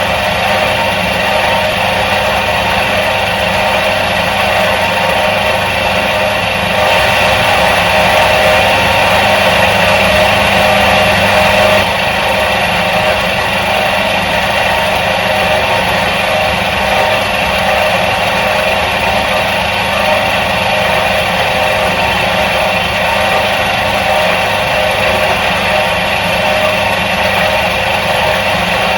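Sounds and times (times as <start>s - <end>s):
washing machine motor humming: 0.0s - 28.9s.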